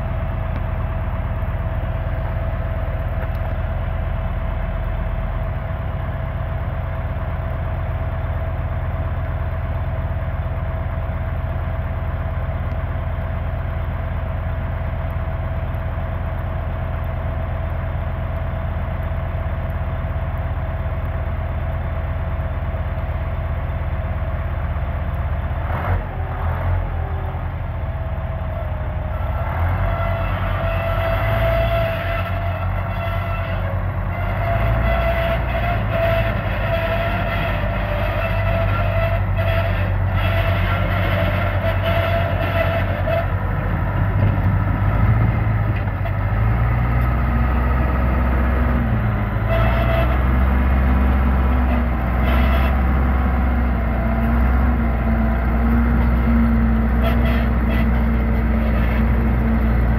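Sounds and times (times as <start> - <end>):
diesel engine revving: 0.0 - 59.9
diesel engines idling: 0.0 - 59.9.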